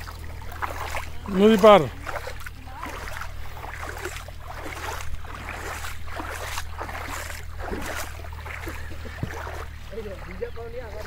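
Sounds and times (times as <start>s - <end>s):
bare feet splashing in water: 0.0s - 11.0s.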